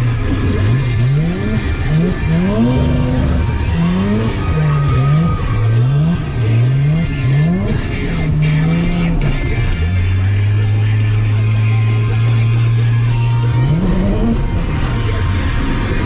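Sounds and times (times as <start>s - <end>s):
rotary engine revving: 0.0s - 16.0s.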